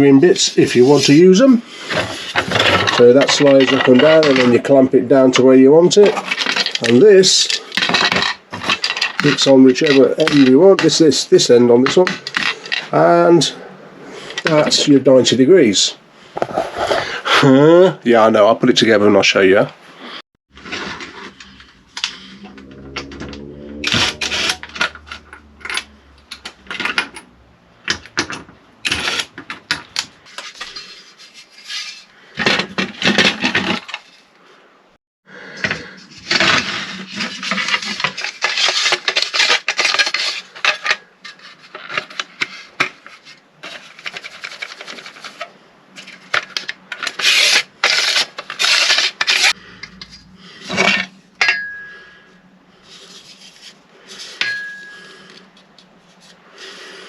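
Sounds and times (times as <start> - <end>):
scraping and rustling: 0.0 - 17.4, 20.0 - 34.4, 35.8 - 57.0.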